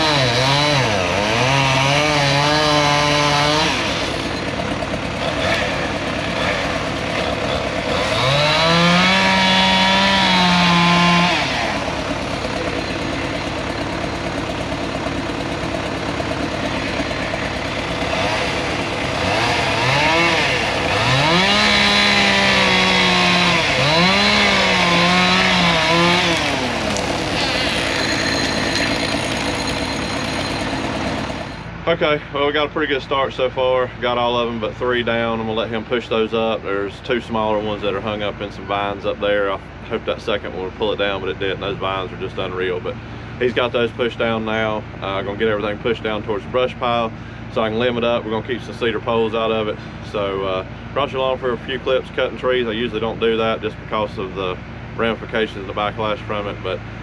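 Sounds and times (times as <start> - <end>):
chainsaw revving: 0.0 - 31.8, 34.0 - 57.0.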